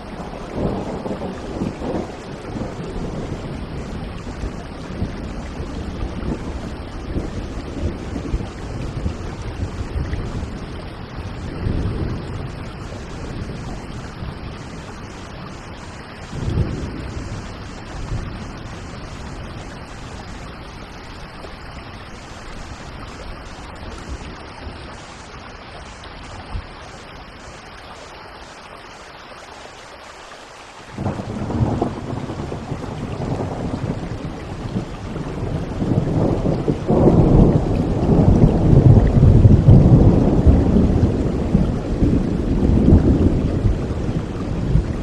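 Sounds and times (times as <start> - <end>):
thunder rumbling: 0.0 - 26.7, 31.0 - 45.0
steady rain: 0.0 - 45.0.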